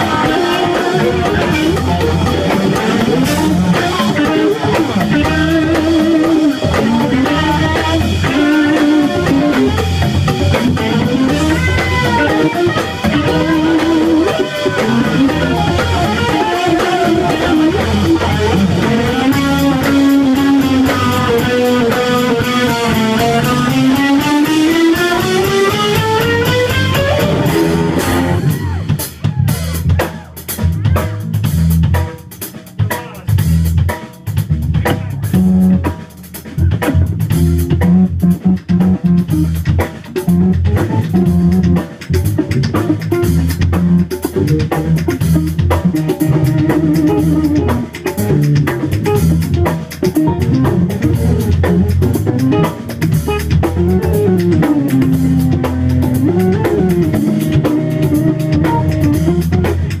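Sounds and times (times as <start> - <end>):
electric guitar lead: 0.0 - 32.1, 34.7 - 60.0
bass guitar: 0.0 - 60.0
drum kit: 0.0 - 60.0.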